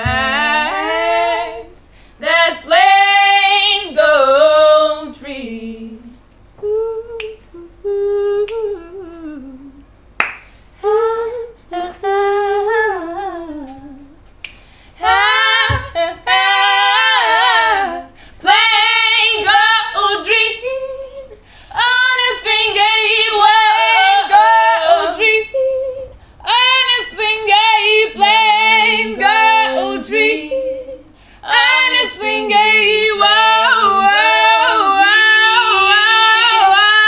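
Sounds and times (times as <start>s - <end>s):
women singing a cappella: 0.0s - 9.9s, 10.8s - 14.2s, 14.9s - 37.0s.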